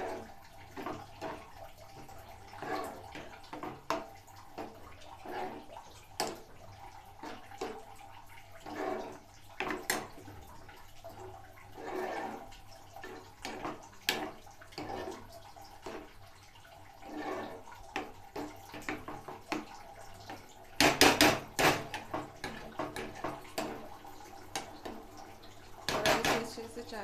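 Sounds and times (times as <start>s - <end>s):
spoon stirring in syrup: 0.0s - 27.0s.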